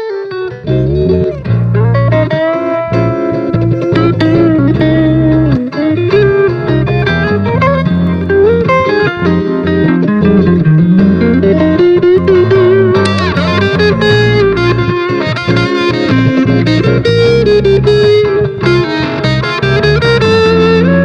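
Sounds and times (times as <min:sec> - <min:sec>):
electric guitar jazz improvisation: 0:00.0 - 0:21.0.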